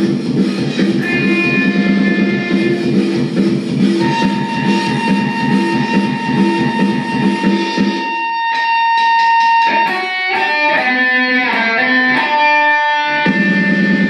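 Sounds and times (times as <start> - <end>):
loud electric guitar: 0.0 - 14.0.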